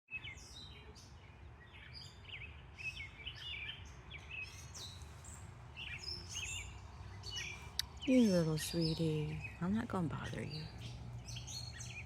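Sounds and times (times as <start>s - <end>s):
birds chirping and whistling: 1.7s - 12.0s.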